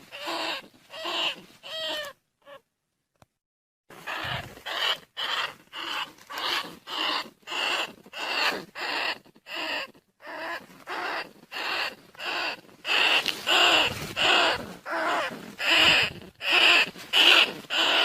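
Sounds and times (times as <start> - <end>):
rats squealing: 0.0 - 2.6, 4.0 - 18.0.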